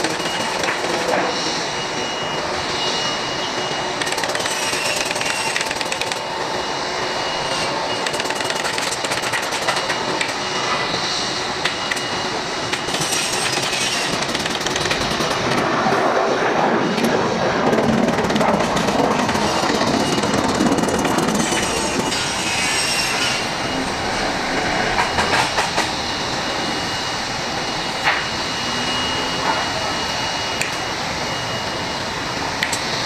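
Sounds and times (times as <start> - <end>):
jet engines at takeoff: 0.0 - 33.0.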